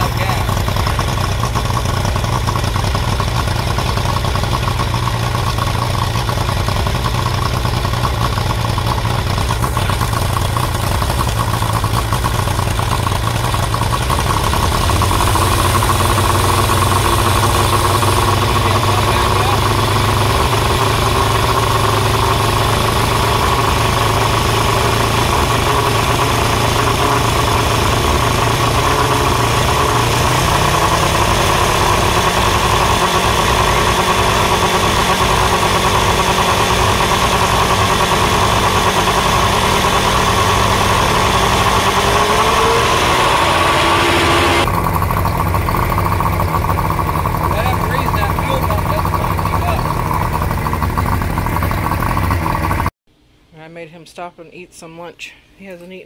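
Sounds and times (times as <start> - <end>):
outboard motor idling: 0.0 - 52.9.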